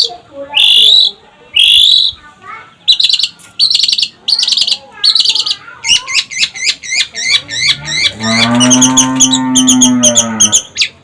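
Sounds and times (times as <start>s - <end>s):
bird chirps: 0.0s - 2.2s, 2.9s - 11.0s
bird singing trilled bursts: 0.0s - 2.2s, 2.8s - 11.0s.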